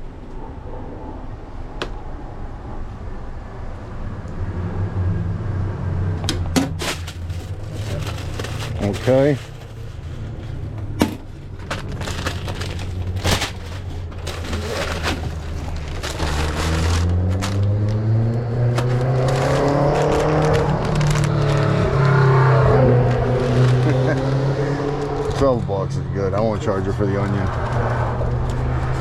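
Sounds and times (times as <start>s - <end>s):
vehicle engine pulling away: 4.1s - 29.0s.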